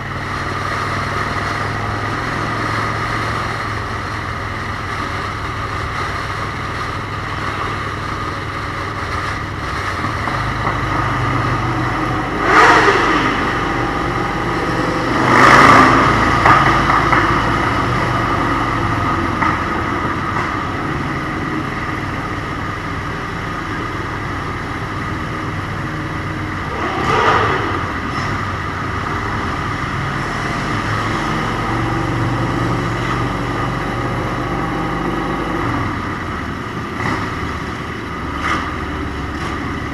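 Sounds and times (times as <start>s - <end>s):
motorcycle engine running: 0.0s - 39.9s
vehicles passing by: 0.0s - 39.9s.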